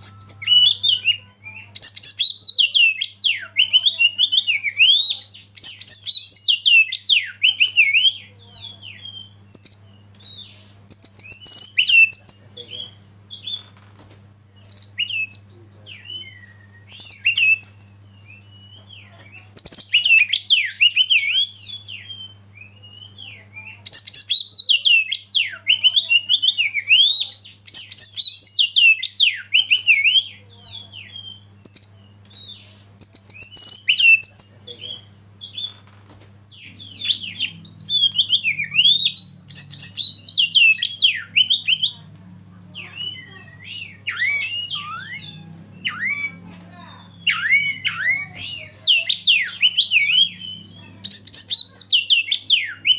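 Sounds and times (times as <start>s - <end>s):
bird singing whistles and chatter: 0.0s - 14.0s, 14.6s - 52.9s.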